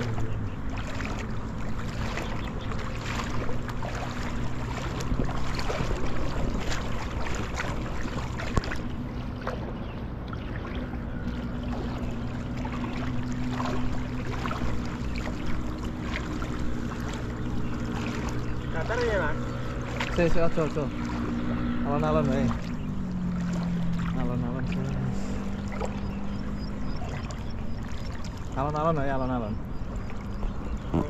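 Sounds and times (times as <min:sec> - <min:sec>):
small water splashes: 0:00.0 - 0:31.0
water sloshing around wading legs: 0:00.0 - 0:31.0.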